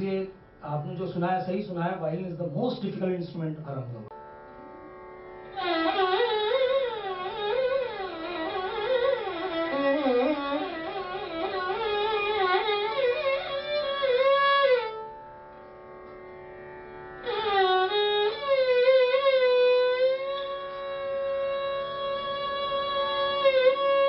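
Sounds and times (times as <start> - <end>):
faint steady drone: 0.0 - 24.0
violin melody: 4.1 - 24.0.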